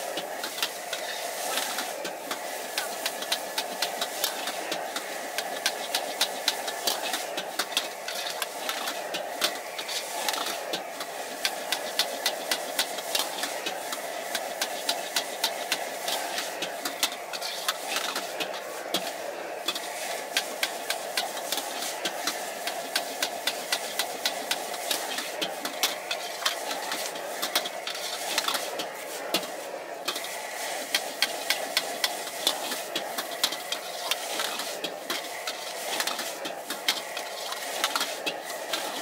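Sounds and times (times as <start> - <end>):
gas burner rushing: 0.0 - 39.0
noodles sizzling: 0.0 - 39.0
metal utensils clanking on a wok: 0.1 - 30.3, 30.9 - 39.0.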